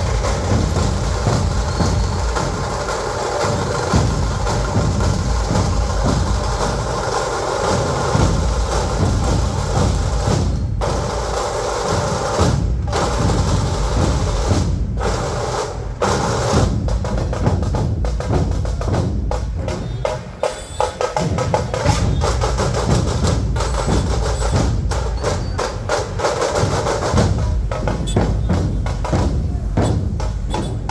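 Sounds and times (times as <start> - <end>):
dhol drums playing fast: 0.0 - 30.9.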